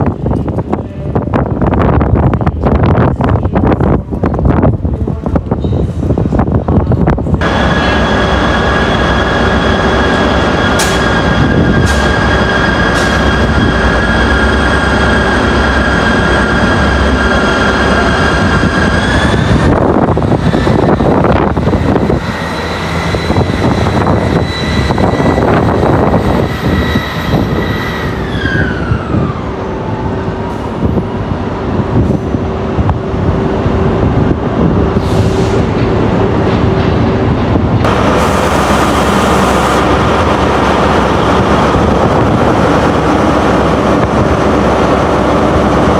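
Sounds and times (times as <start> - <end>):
train rumble: 0.0 - 45.9
train whine: 0.0 - 45.9.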